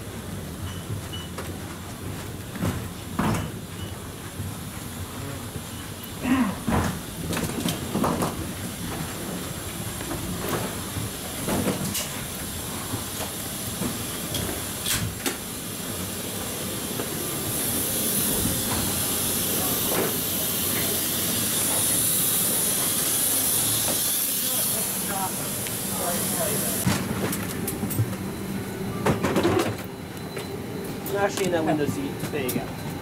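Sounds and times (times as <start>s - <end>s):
air conditioning hiss: 4.2s - 28.8s, 30.6s - 33.0s.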